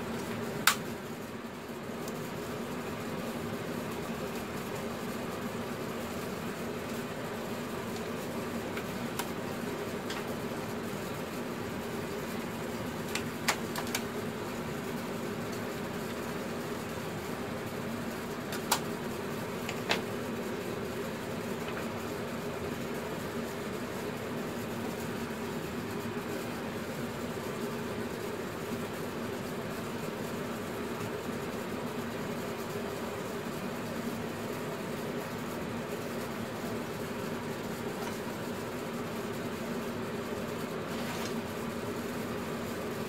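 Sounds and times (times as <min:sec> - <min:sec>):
machine hum: 0:00.0 - 0:43.0.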